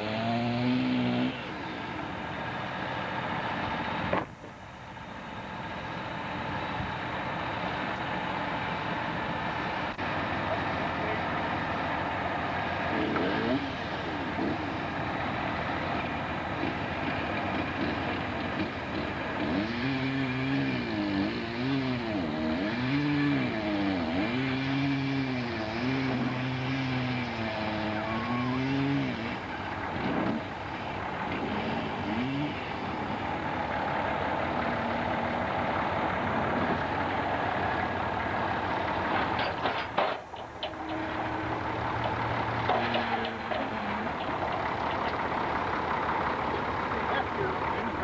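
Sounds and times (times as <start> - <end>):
sawmill engine running: 0.0 - 48.0.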